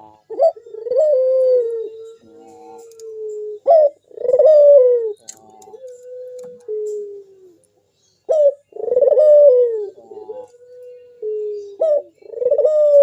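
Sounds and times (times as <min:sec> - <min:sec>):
dove cooing: 0:00.0 - 0:07.6, 0:08.2 - 0:13.0.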